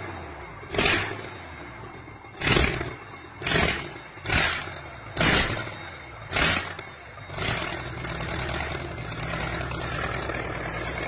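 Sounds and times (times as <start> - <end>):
bulldozer diesel engine rumble: 0.0 - 11.0.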